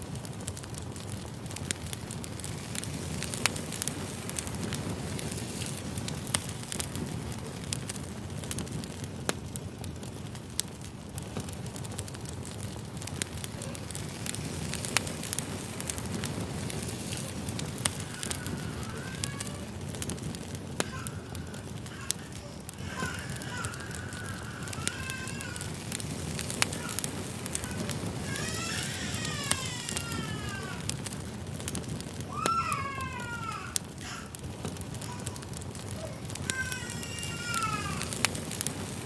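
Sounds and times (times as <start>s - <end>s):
firewood crackling and popping: 0.0s - 39.0s
low rumble of flames: 0.0s - 39.0s.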